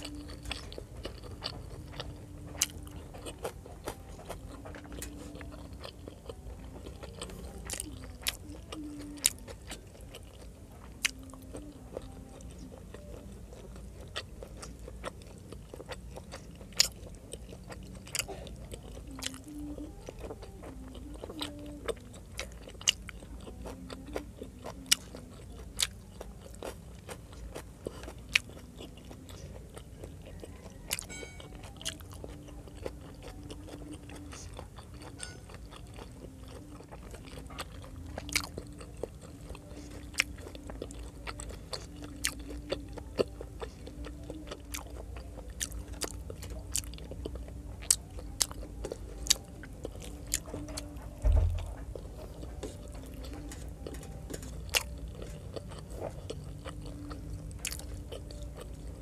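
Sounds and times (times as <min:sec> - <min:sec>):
close chewing with mouth clicks: 0:00.0 - 0:59.0
steady low hum: 0:00.0 - 0:59.0.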